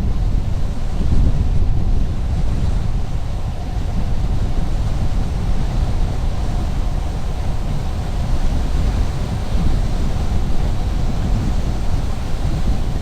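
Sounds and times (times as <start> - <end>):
car road and tyre rumble: 0.0 - 13.0
wind noise: 0.0 - 13.0.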